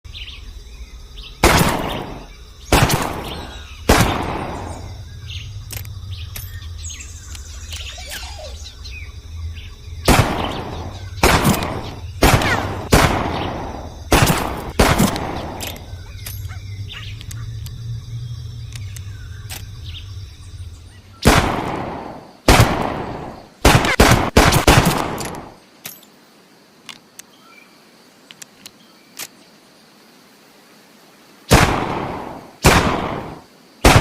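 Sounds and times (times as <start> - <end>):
birds chirping faintly: 0.1 - 33.9.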